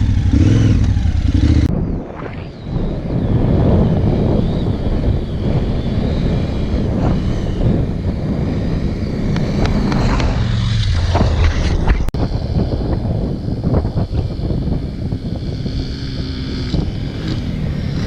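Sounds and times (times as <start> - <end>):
motorcycle engine running: 0.0 - 1.7, 2.7 - 18.0
wind noise on microphone: 0.0 - 18.0.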